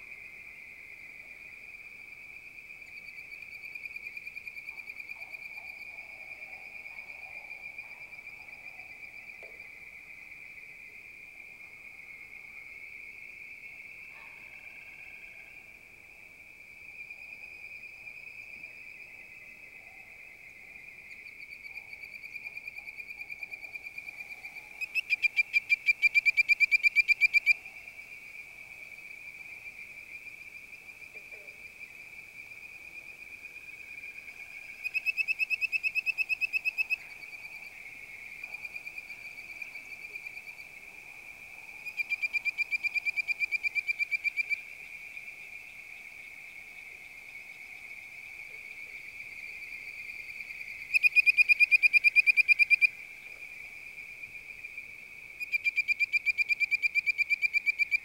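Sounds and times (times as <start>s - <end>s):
treefrogs whistling calls: 0.0s - 58.0s.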